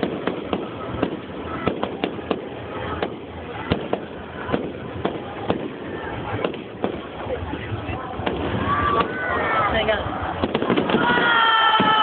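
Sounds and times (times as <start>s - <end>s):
fireworks banging: 0.0s - 12.0s
steady background noise: 0.0s - 12.0s.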